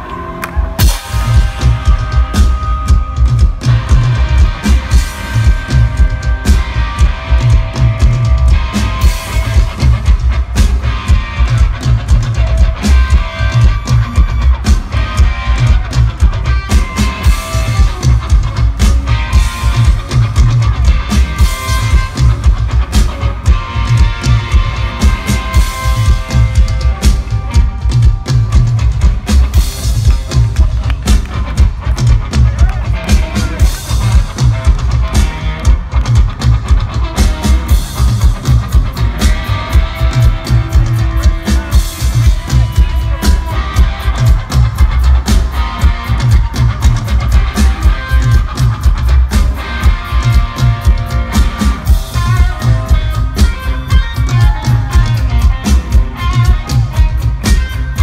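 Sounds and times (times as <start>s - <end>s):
drum kit beating: 0.0s - 58.0s
electric guitar: 0.0s - 58.0s.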